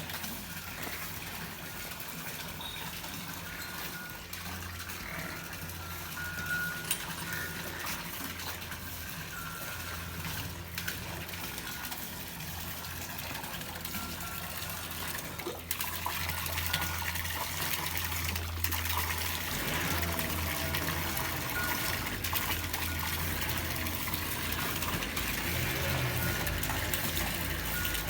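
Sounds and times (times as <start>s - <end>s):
running water gushing: 0.0s - 28.0s.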